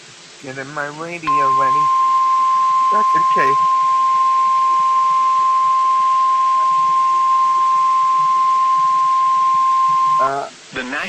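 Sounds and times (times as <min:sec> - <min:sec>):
faint radio hiss: 0:00.0 - 0:11.0
steady alarm tone: 0:01.3 - 0:10.3.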